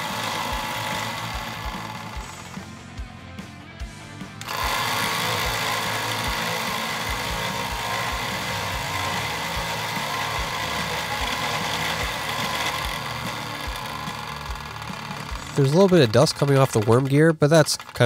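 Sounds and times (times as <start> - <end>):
loud metal gear noise: 0.0 - 2.7, 4.4 - 18.0
electric motor running: 0.0 - 2.9, 4.4 - 18.0.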